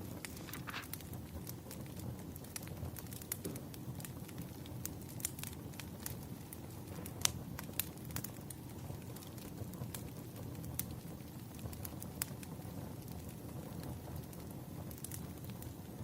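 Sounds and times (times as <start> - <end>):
firewood crackling and popping: 0.0 - 16.0.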